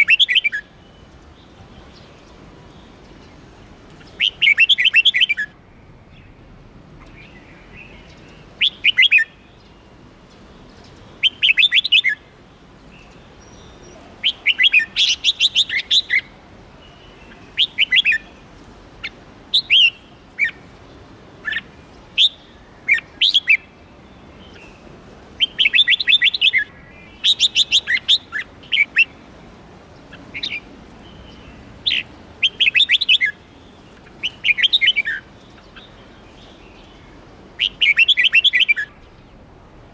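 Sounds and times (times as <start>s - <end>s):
bird chirping: 0.0s - 29.3s, 30.0s - 39.4s.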